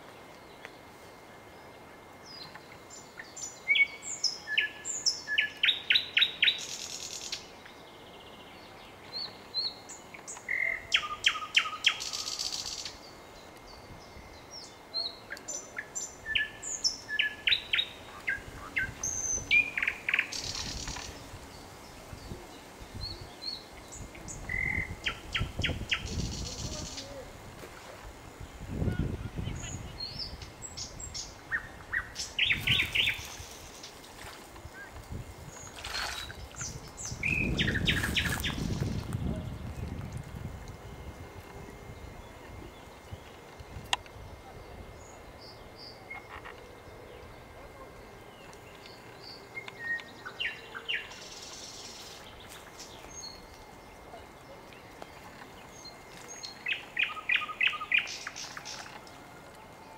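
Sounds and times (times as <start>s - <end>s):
steady outdoor hiss: 0.0s - 59.9s
nightingale singing: 2.2s - 27.2s, 28.7s - 34.0s, 35.8s - 39.9s, 44.0s - 59.0s.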